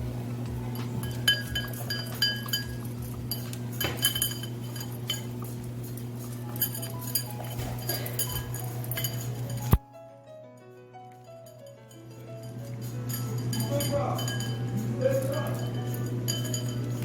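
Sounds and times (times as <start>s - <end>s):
dogs eating kibble from bowls: 0.0s - 9.8s, 12.4s - 17.0s.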